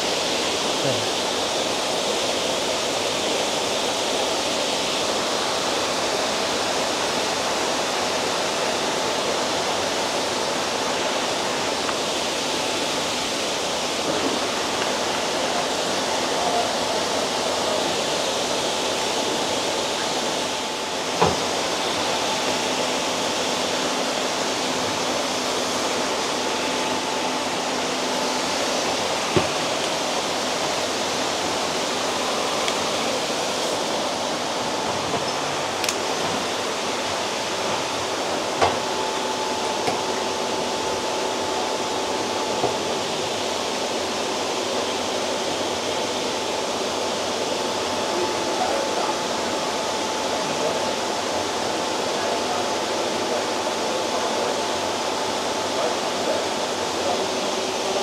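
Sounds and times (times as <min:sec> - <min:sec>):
water rushing in pond: 0:00.0 - 0:58.0.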